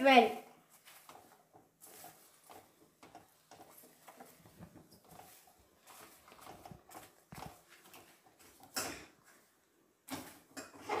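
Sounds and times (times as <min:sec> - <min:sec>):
popcorn rustling in steel pan: 0:00.0 - 0:11.0.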